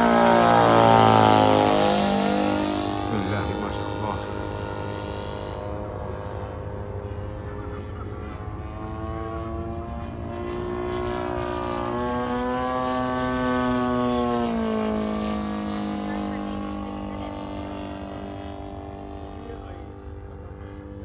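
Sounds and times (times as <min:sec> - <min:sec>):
model engine running: 0:00.0 - 0:21.0.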